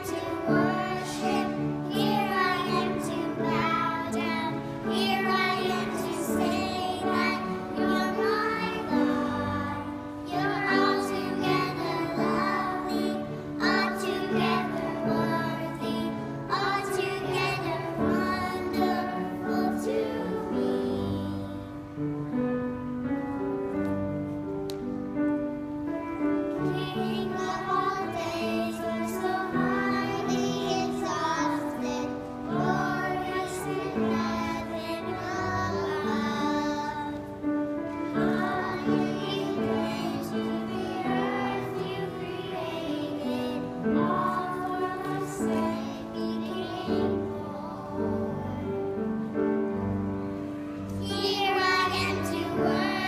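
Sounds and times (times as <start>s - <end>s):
children singing in unison: 0.0s - 21.9s, 26.5s - 49.2s, 50.4s - 53.0s.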